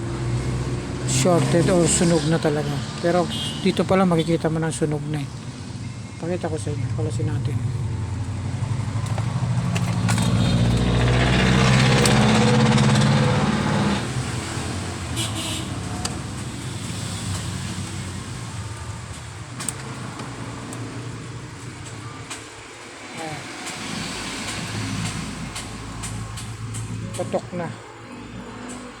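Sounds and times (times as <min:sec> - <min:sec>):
passing vehicle engine: 0:00.0 - 0:29.0.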